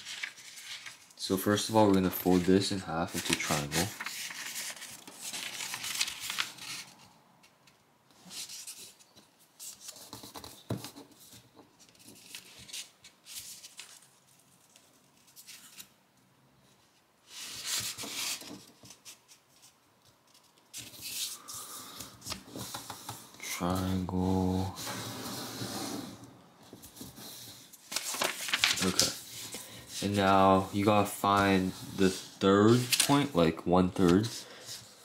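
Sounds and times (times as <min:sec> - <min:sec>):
paper rustling and scraping: 0:00.0 - 0:07.1, 0:08.2 - 0:15.9, 0:17.3 - 0:35.0.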